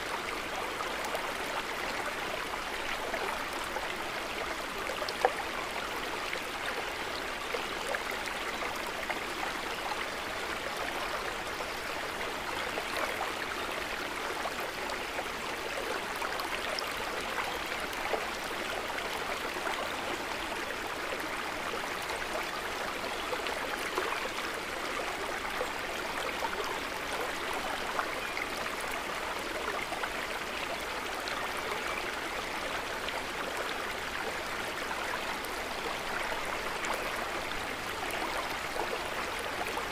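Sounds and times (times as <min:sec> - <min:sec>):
water babbling and trickling: 0:00.0 - 0:39.9.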